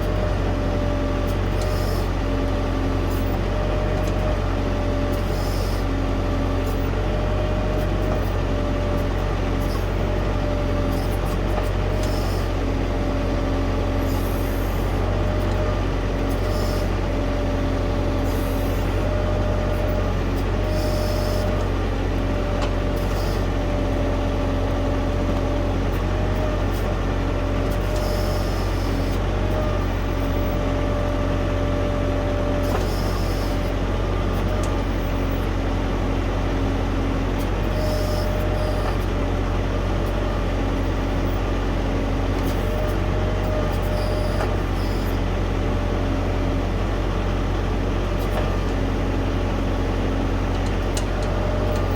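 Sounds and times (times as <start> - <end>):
hydraulic whine: 0.0 - 35.6, 37.4 - 51.9
tractor diesel engine running: 0.0 - 51.9.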